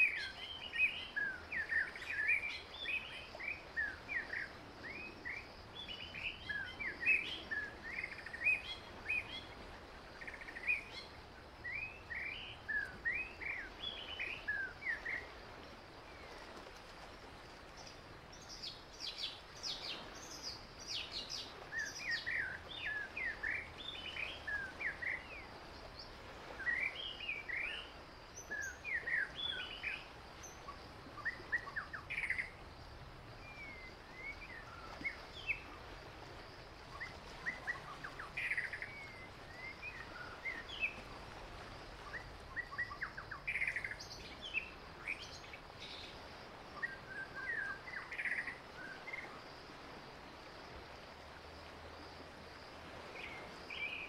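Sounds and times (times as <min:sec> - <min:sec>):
faint outdoor hiss: 0:00.0 - 0:54.0.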